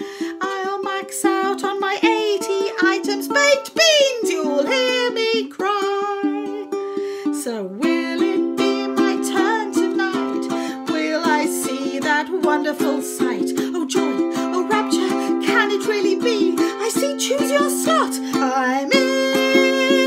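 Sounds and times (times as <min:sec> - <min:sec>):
ukulele strumming: 0:00.0 - 0:20.0
woman singing: 0:00.0 - 0:20.0.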